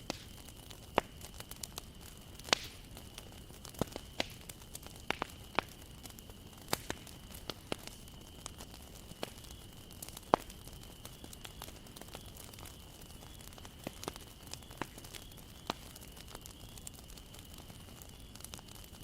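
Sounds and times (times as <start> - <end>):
bonfire crackling: 0.0 - 19.0
burning wood popping: 0.0 - 19.0
soft hiss of fire: 0.0 - 19.0.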